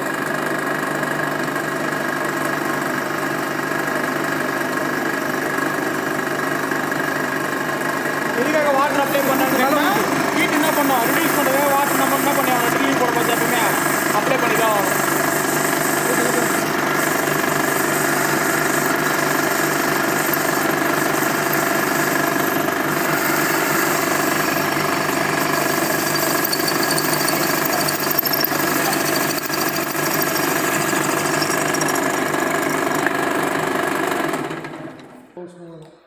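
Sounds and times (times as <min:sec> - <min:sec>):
drill press boring metal: 0:00.1 - 0:34.8.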